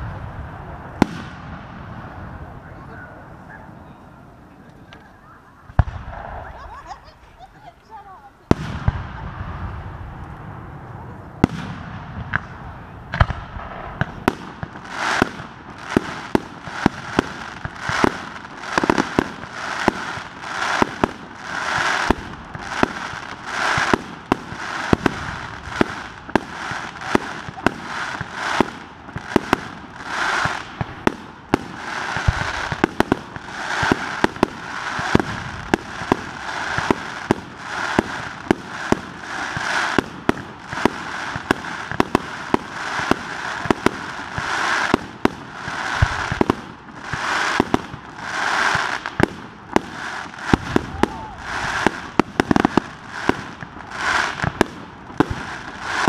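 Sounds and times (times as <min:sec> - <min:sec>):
fireworks bangs: 0:00.0 - 0:56.0
fireworks launch hissing: 0:04.9 - 0:56.0.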